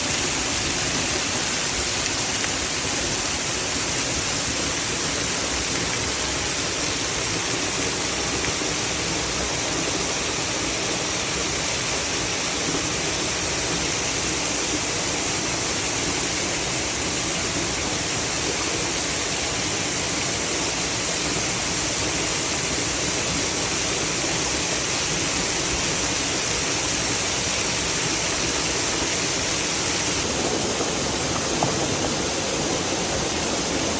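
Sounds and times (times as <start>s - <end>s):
waterfall rushing: 0.0s - 20.1s, 26.5s - 33.9s.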